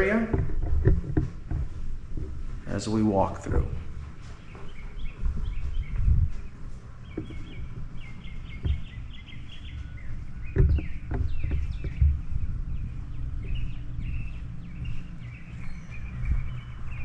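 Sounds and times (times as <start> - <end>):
birds chirping: 0.0 - 17.0
low thumps: 0.0 - 17.0
steady low rumble: 0.0 - 17.0.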